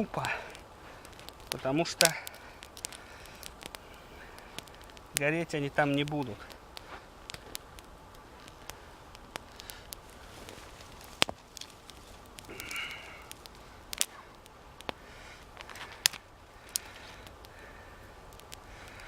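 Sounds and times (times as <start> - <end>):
campfire popping and crackling: 0.0 - 19.0
fire hissing: 0.0 - 19.0.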